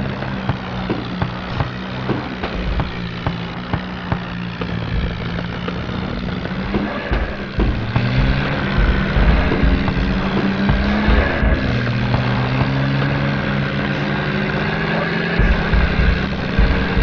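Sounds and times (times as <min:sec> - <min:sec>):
low thumps and rumble: 0:00.0 - 0:17.0
vehicle engine running: 0:00.0 - 0:17.0.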